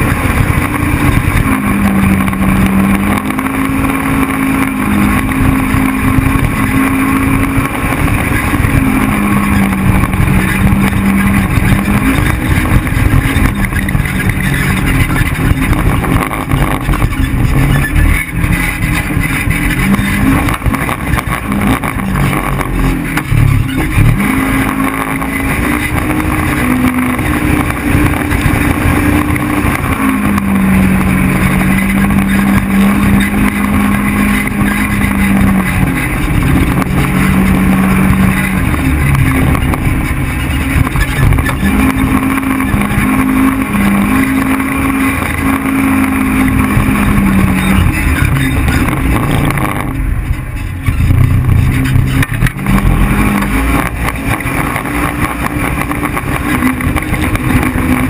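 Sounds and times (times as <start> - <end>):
trail noise: 0.0 - 58.0
vehicle engine drone: 0.0 - 58.0
wind: 0.0 - 58.0.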